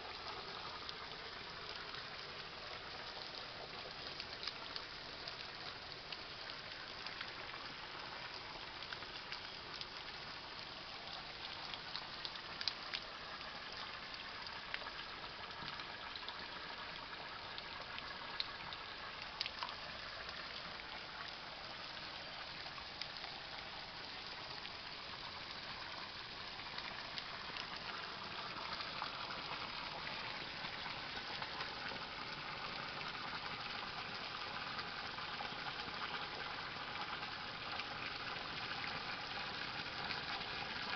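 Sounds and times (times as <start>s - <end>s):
water pouring onto rocks: 0.0s - 40.9s.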